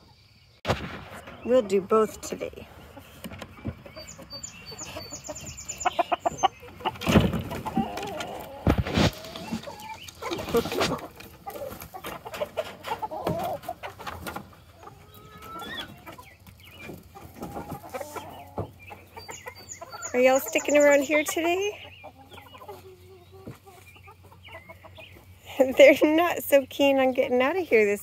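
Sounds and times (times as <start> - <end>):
chickens clucking: 1.0 - 28.0.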